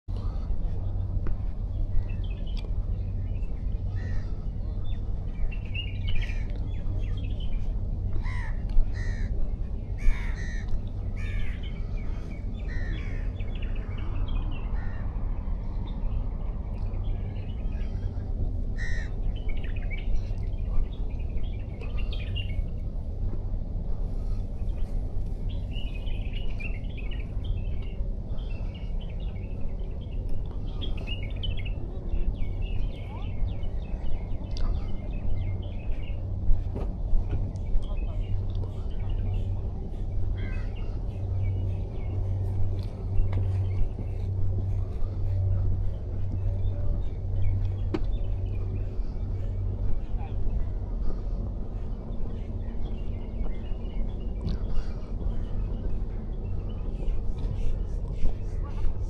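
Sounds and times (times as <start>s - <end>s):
birds calling: 0.1s - 59.0s
low rumble of waves: 0.1s - 59.0s.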